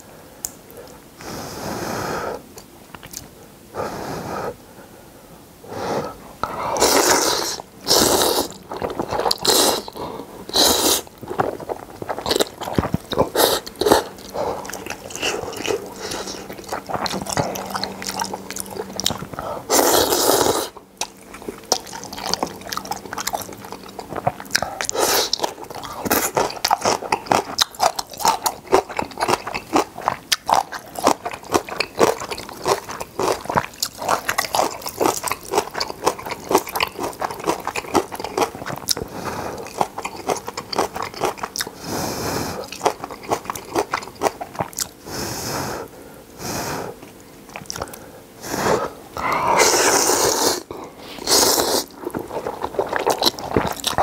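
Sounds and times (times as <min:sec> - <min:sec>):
wet open-mouthed chewing: 0:06.4 - 0:45.0, 0:47.0 - 0:54.0
noodle slurping: 0:06.7 - 0:44.7, 0:47.6 - 0:54.0.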